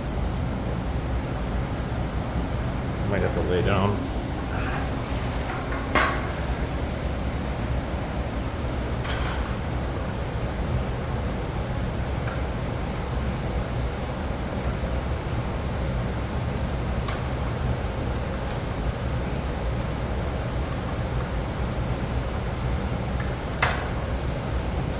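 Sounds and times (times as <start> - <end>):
ventilation fan humming: 0.0 - 24.9.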